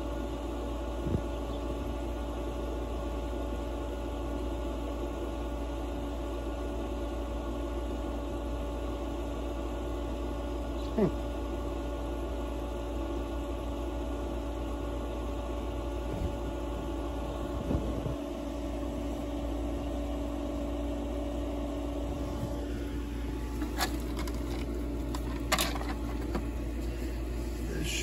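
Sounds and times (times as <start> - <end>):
pool equipment humming: 0.0 - 28.0.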